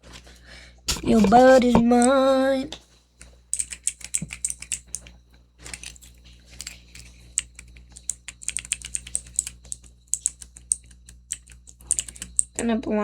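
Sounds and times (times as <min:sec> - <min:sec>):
fidget toy clicking: 0:00.9 - 0:02.3, 0:03.2 - 0:12.6.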